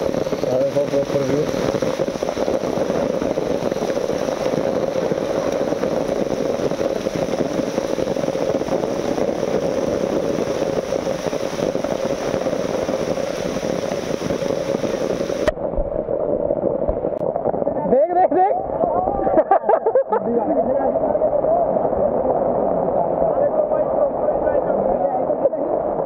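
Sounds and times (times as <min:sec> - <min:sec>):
heavy rain: 0:00.0 - 0:26.0
running water: 0:00.0 - 0:26.0.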